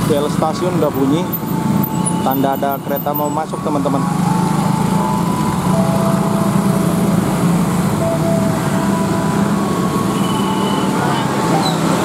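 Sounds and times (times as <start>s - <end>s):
engines idling: 0.0s - 12.0s
road traffic hum: 0.0s - 12.0s.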